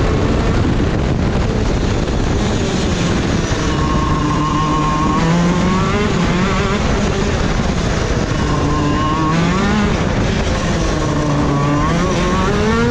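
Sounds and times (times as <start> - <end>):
two-stroke kart engine running hard: 0.0 - 12.9.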